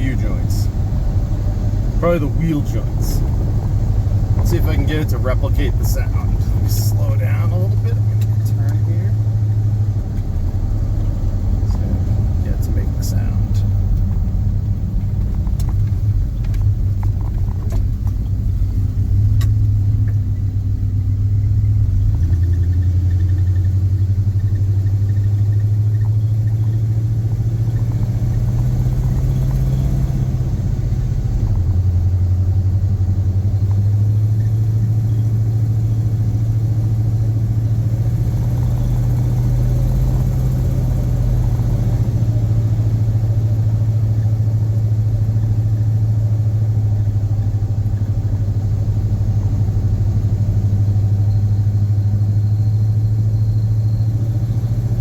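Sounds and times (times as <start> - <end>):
truck engine drone: 0.0 - 55.0.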